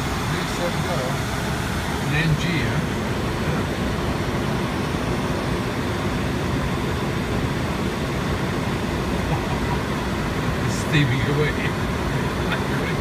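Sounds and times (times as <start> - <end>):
cockpit airflow and air conditioning hiss: 0.0 - 13.0.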